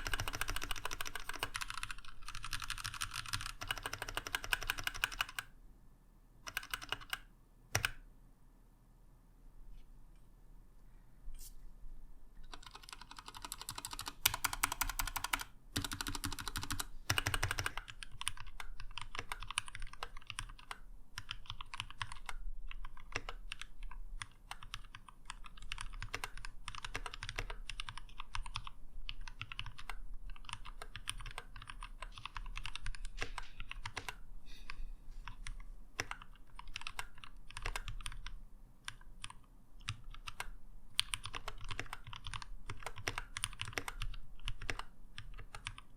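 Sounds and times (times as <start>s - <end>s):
mechanical keyboard typing: 0.0s - 5.5s, 6.5s - 8.0s, 12.4s - 34.2s, 35.2s - 45.9s.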